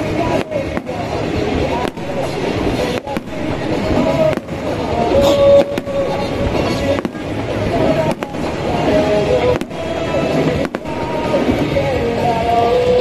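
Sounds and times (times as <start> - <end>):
fireworks shells bursting: 0.0 - 12.2
music: 0.0 - 13.0.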